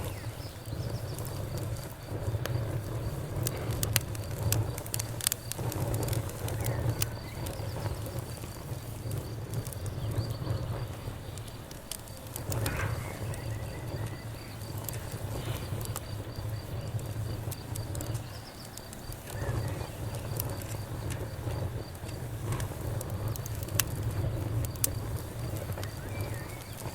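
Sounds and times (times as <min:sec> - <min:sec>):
campfire crackling: 0:00.0 - 0:26.9
crickets chirping: 0:00.0 - 0:26.9.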